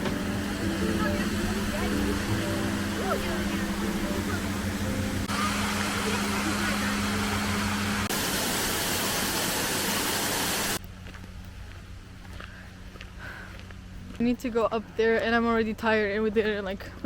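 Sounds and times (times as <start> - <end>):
low hum: 0.0 - 9.6, 10.6 - 16.3.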